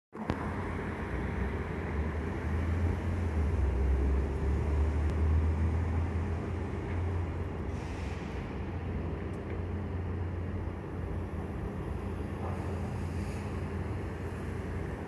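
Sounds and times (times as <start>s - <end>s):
street traffic rumble: 0.1s - 15.0s.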